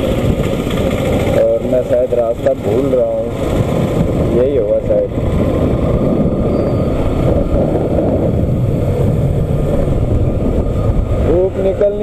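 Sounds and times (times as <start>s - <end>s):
motorcycle engine running: 0.0s - 12.0s
wind on microphone: 0.0s - 12.0s.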